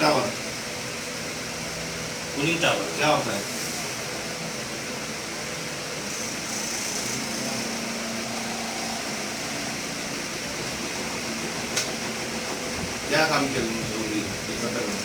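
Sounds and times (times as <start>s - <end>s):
fan hum and hiss: 0.0s - 15.0s.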